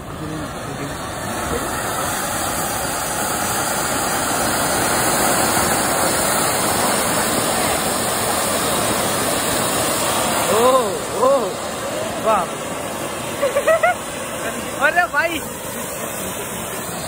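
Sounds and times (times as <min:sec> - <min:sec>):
fireworks spraying sparks hissing: 0:00.0 - 0:17.0.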